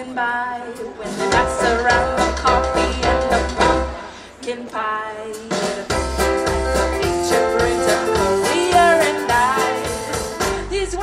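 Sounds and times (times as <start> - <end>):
person singing: 0.0 - 11.0
live band playing: 0.8 - 4.4, 5.3 - 11.0.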